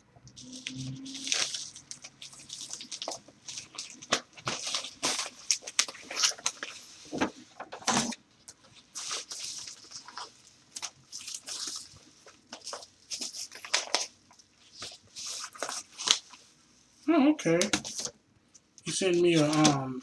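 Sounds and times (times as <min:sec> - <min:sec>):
packaging crinkling and tearing: 0:00.3 - 0:16.4, 0:19.2 - 0:19.9.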